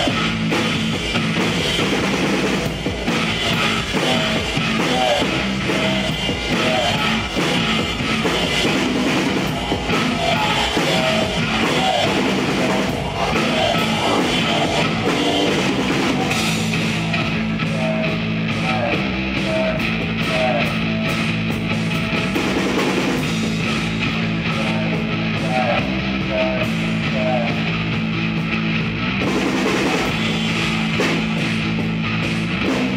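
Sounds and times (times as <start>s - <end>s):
drum kit: 0.0s - 32.9s
electric guitar: 0.0s - 32.9s.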